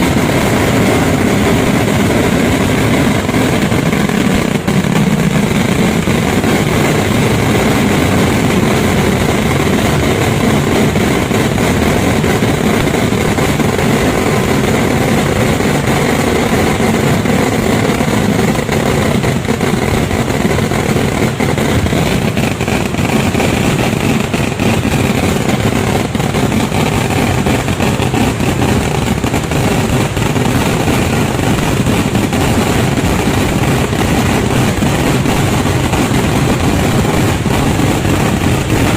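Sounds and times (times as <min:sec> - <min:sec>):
firecracker barrage: 0:00.0 - 0:38.9.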